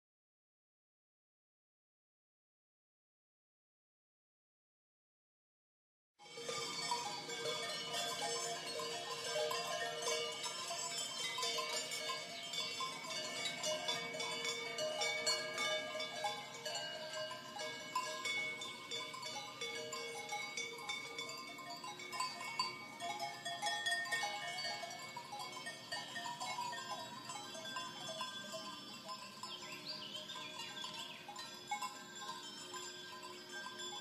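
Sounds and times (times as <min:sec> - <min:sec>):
cowbells clanking: 0:06.2 - 0:34.0.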